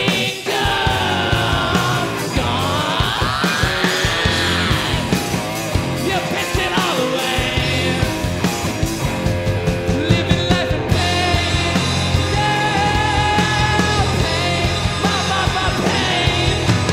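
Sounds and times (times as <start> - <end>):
live rock band playing: 0.0 - 16.9.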